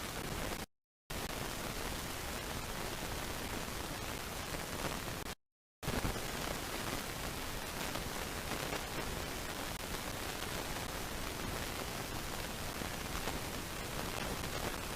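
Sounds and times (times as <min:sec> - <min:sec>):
static-like hiss: 0:00.0 - 0:14.9.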